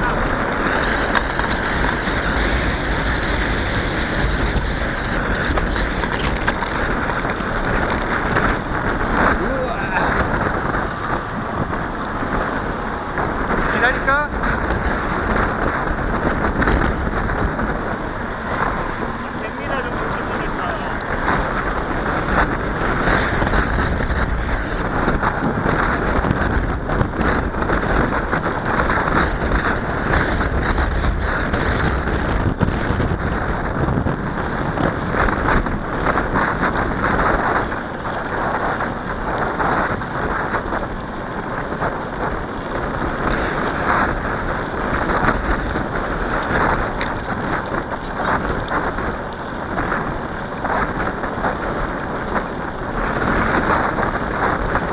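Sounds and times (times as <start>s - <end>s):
bicycle tyre noise: 0.0s - 54.9s
wind buffeting microphone: 0.0s - 54.9s
wind rush: 0.0s - 54.9s.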